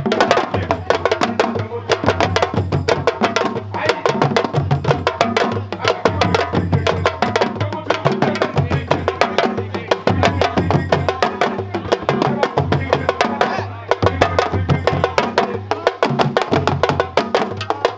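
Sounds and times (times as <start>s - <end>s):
fast hand drumming: 0.0s - 17.9s.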